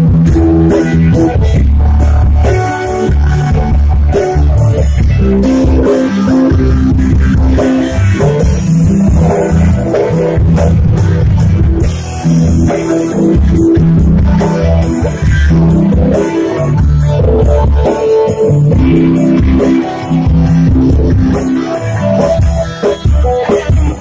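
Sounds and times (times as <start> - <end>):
loud dance music: 0.0 - 24.0.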